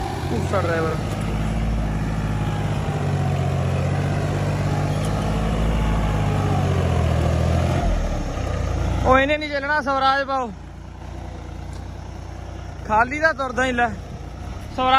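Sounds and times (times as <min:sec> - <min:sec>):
tractor diesel engine under load: 0:00.0 - 0:14.9.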